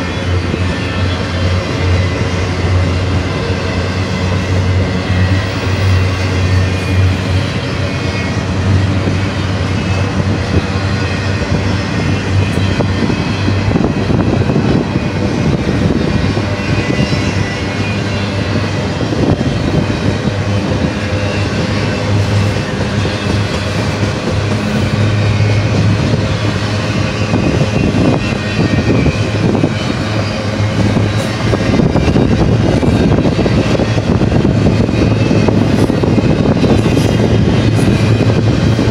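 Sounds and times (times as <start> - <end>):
steel wheels rumbling on rail: 0.0 - 38.9.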